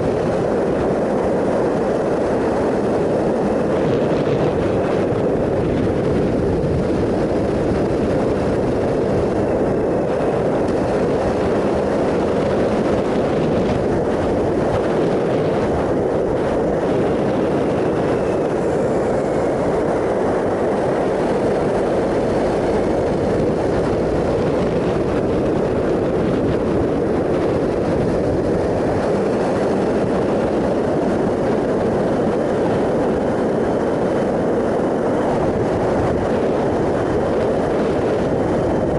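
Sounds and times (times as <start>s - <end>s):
motorcycle engine at steady speed: 0.0s - 38.9s
wind noise: 0.0s - 38.9s.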